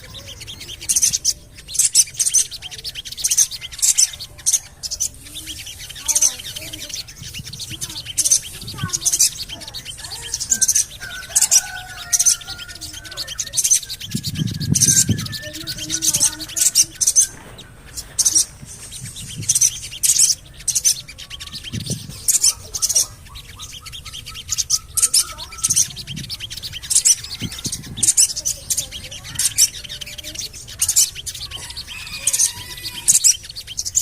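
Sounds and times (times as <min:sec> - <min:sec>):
birds with sharp high chirps: 0:00.0 - 0:34.0
soft warbling birdsong: 0:00.0 - 0:34.0.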